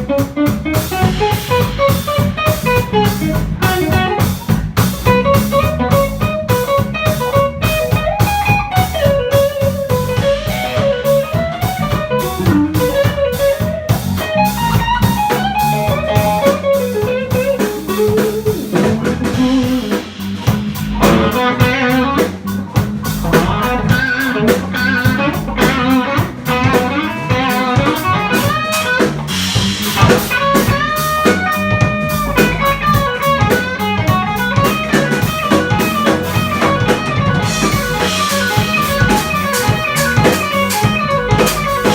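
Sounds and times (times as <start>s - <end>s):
live jazz combo playing: 0.0s - 41.9s.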